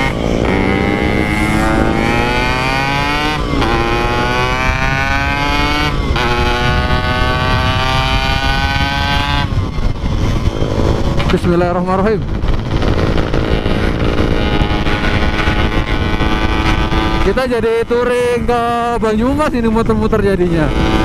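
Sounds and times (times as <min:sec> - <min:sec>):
motorcycle accelerating through gears: 0:00.0 - 0:11.4, 0:12.2 - 0:17.4, 0:20.5 - 0:21.0.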